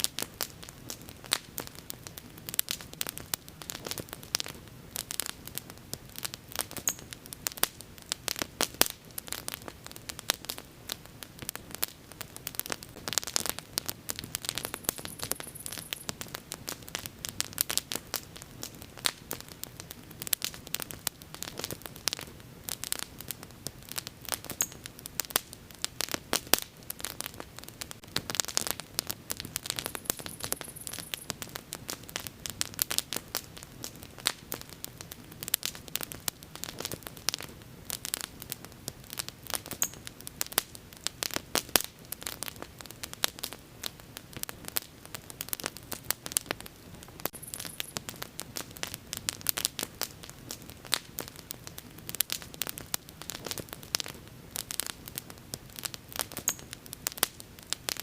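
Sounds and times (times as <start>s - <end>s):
bonfire crackling and popping: 0.0s - 58.0s
faint steady hiss: 0.0s - 58.0s.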